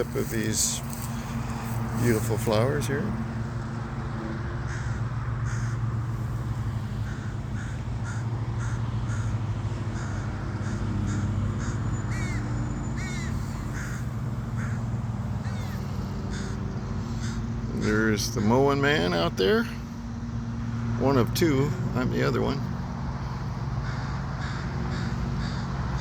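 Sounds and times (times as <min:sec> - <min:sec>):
crows cawing: 0:00.0 - 0:19.5, 0:23.1 - 0:26.0
low engine hum: 0:00.0 - 0:26.0.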